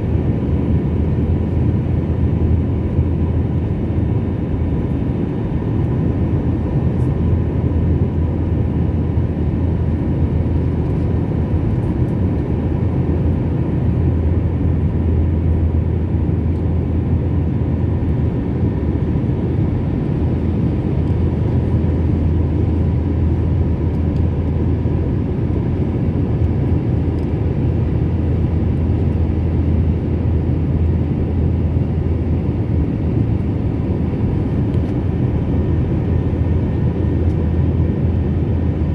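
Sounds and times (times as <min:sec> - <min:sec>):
airliner cabin engine roar: 0:00.0 - 0:38.9.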